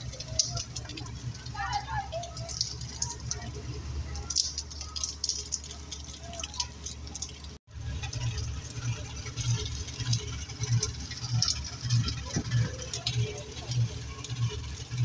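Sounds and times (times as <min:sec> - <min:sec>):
diesel engine humming: 0:00.0 - 0:15.0
rain pattering and dripping: 0:00.0 - 0:15.0.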